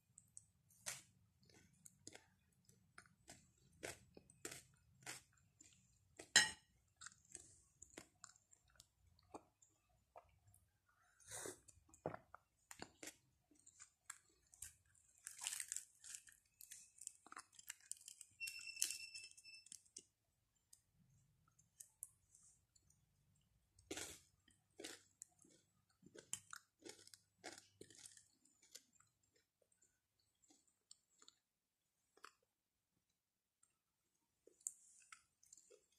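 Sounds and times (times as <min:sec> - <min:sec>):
chewing flatbread: 0:00.0 - 0:19.0, 0:19.6 - 0:35.9.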